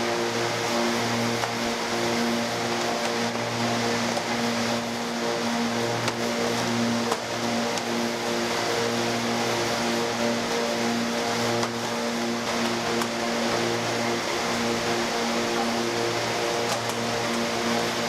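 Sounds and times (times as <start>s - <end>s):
factory machinery humming: 0.0s - 18.0s.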